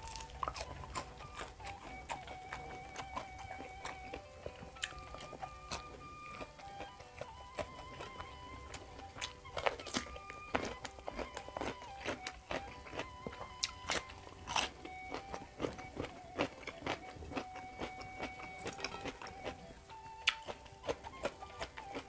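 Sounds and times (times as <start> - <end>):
crunching raw vegetables: 0.0 - 22.0
quiet background music: 0.0 - 22.0.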